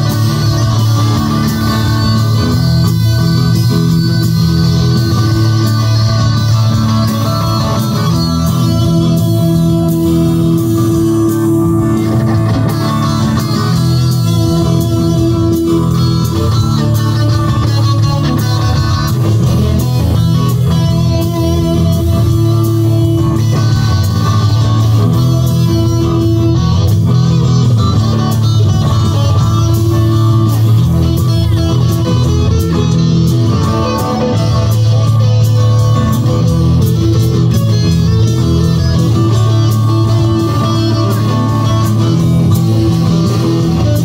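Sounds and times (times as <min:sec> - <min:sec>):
live rock electric guitars: 0:00.0 - 0:44.0.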